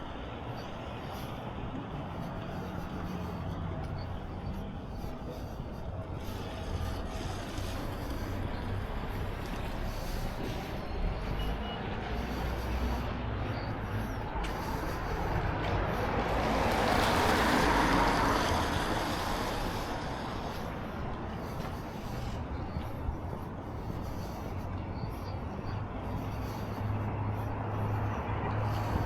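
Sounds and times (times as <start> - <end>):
low traffic rumble: 0.0 - 29.0.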